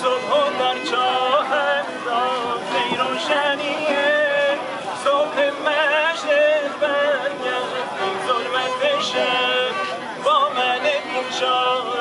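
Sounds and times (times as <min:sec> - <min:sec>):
man singing ornamented melody: 0:00.0 - 0:12.0
plucked long-necked lute: 0:00.0 - 0:12.0.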